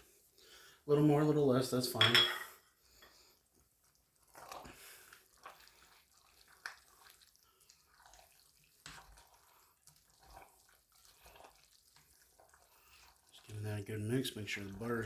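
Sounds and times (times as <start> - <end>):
utensil squelching through noodles: 2.7 - 15.0.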